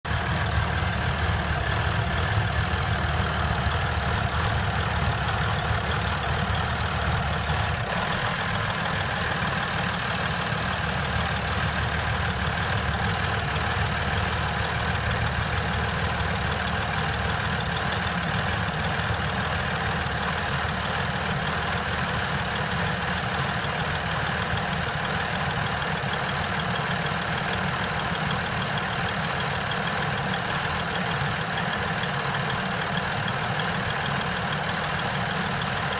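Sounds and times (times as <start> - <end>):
diesel engine rough idling: 0.0 - 35.9.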